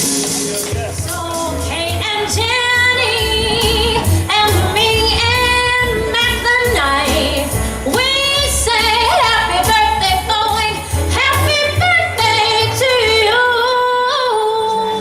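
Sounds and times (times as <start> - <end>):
backing track with bass line: 0.0 - 14.8
female vocal group singing: 1.2 - 15.0.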